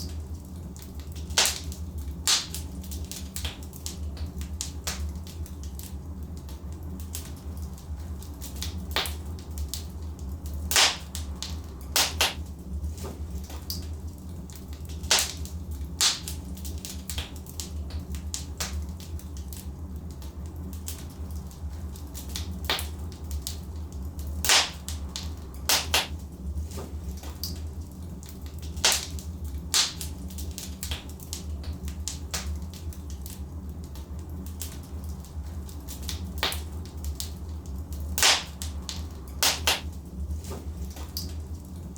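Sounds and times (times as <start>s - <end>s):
low fire rumble: 0.0s - 41.9s
wood fire crackling and popping: 0.0s - 41.9s.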